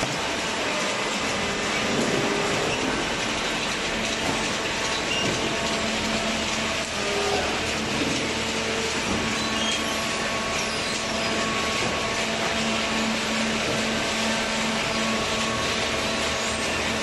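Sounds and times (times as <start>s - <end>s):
cardboard baler running: 0.0s - 17.0s.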